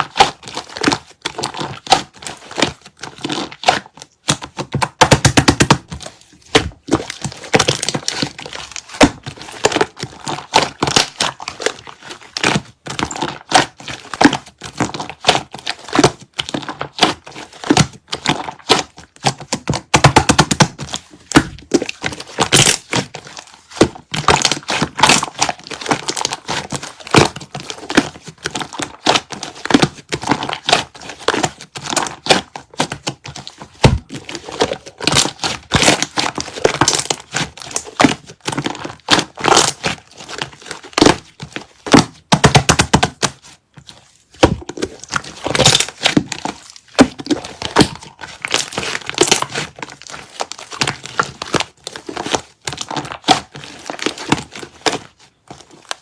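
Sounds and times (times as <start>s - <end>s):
handling crackles and crinkles: 0.0s - 56.0s.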